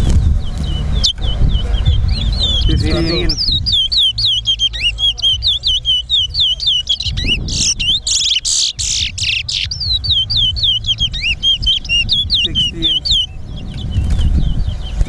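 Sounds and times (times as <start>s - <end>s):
harsh burst of bird notes: 0.0s - 15.0s
bird whistling falling notes: 0.1s - 15.0s.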